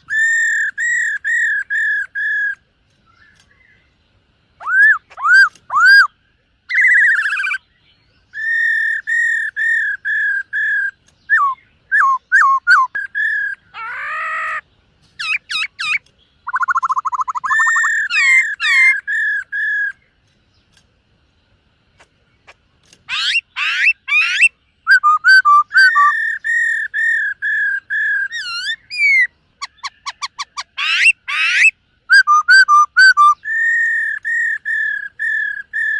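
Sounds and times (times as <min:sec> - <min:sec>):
bird singing whistled song: 0:00.0 - 0:04.0, 0:04.6 - 0:20.7, 0:23.1 - 0:35.9.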